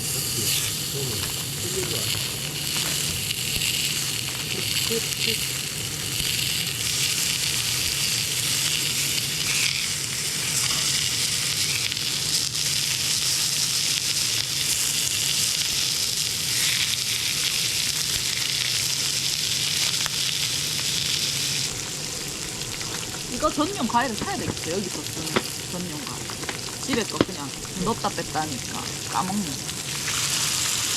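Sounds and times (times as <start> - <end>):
food frying in a pan: 0.0 - 30.9.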